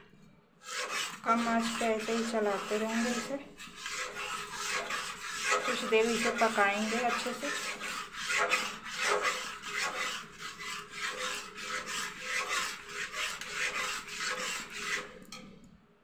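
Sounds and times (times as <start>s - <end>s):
metal spatula scraping a pot: 0.0s - 15.6s.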